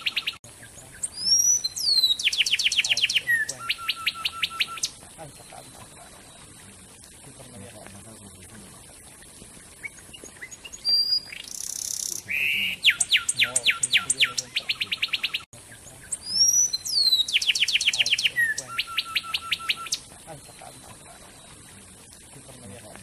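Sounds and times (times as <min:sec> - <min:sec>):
wren singing: 0:00.0 - 0:08.2, 0:09.6 - 0:23.0.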